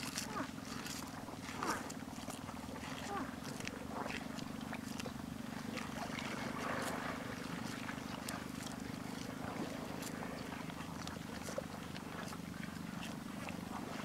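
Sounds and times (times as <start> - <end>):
buffalo chewing plants: 0.0 - 14.0
low motor hum: 0.0 - 14.0.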